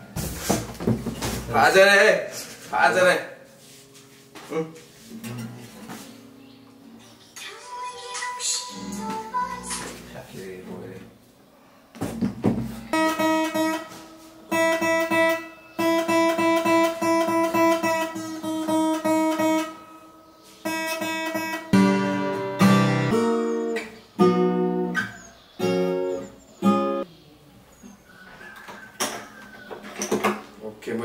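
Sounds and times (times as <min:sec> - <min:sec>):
acoustic guitar playing: 0:00.0 - 0:11.4, 0:12.1 - 0:27.1.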